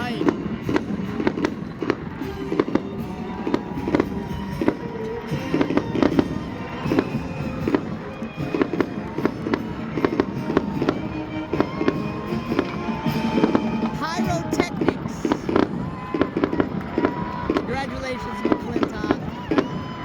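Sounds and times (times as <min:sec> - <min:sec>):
fireworks bangs: 0:00.0 - 0:20.0
music playing: 0:00.0 - 0:20.0.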